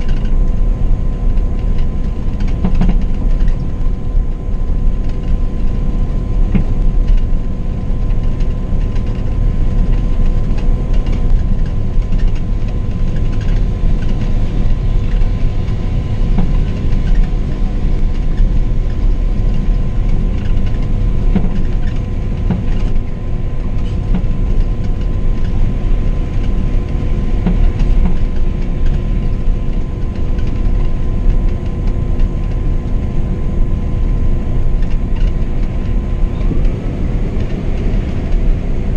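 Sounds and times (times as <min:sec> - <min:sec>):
coach engine and road rumble: 0:00.0 - 0:38.9.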